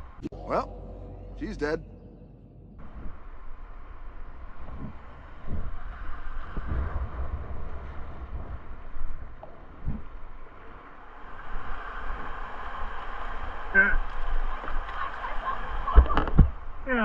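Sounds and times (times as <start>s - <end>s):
low rumble of buffeting: 0.0s - 17.0s.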